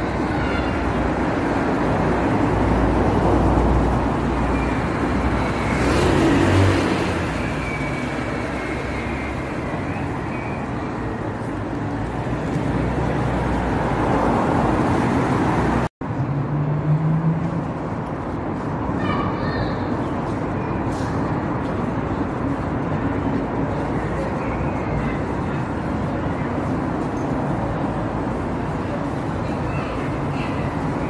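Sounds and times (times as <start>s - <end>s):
cars passing: 0.0s - 31.0s
low traffic rumble: 0.0s - 31.0s.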